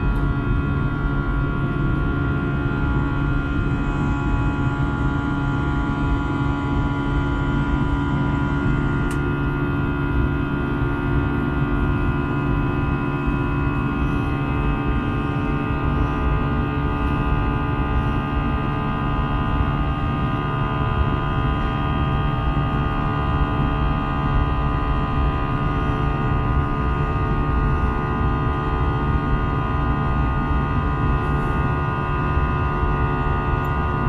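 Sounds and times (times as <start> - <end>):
jet engine rumble in cabin: 0.0 - 34.0.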